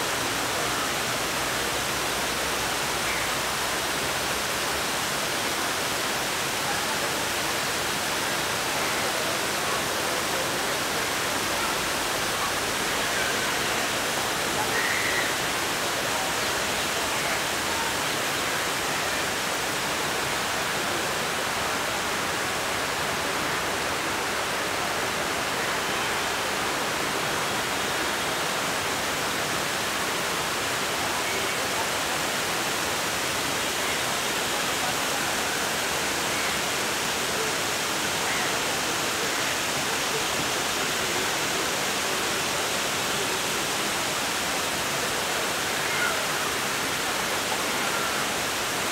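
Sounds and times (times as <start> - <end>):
water pouring down cascade: 0.0 - 48.9.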